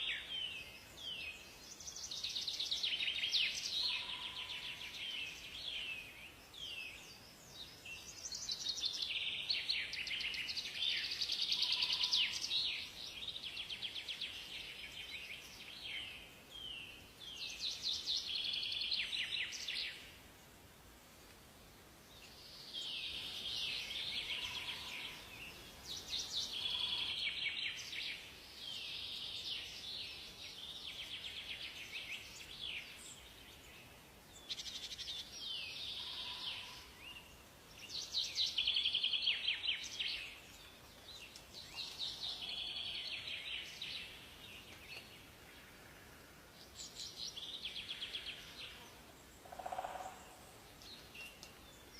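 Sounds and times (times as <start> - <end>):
birds singing in chorus: 0.0 - 20.6, 21.9 - 51.9.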